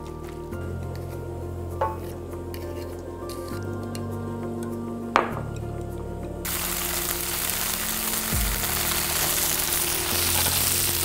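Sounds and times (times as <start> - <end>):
background music with held tones: 0.0 - 11.0.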